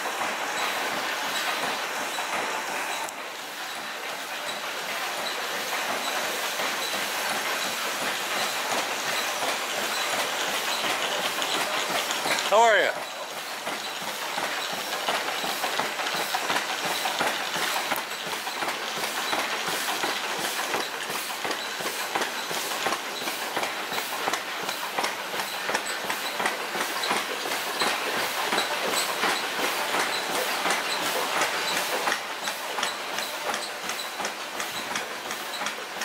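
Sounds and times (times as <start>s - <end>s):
steam engines clattering: 0.0s - 36.0s.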